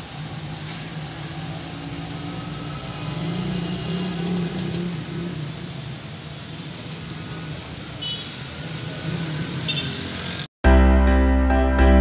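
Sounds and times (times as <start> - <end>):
heavy rain hiss: 0.0 - 10.5.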